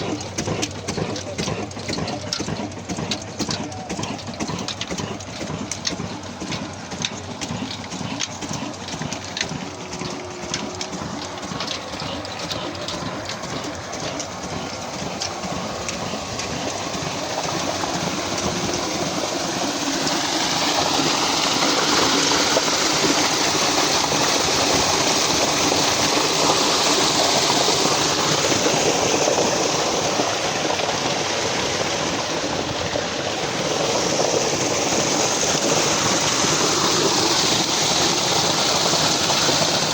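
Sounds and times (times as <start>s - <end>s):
diesel engine clattering: 0.0s - 39.9s
rush of pumped water: 0.0s - 39.9s.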